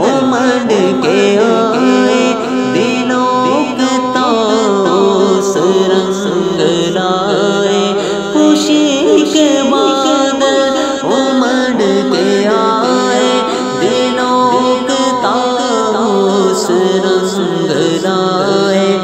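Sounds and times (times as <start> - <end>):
held vocal drone: 0.0 - 19.0
men singing wordless melody: 0.0 - 19.0.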